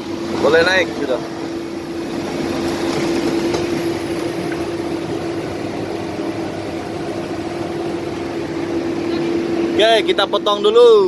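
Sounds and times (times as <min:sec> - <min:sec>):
bulldozer diesel engine droning: 0:00.0 - 0:11.0.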